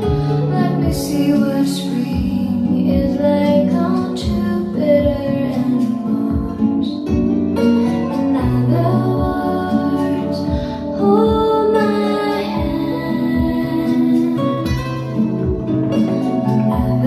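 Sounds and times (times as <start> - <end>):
plucked guitar: 0.0 - 17.0
woman singing: 0.0 - 17.0.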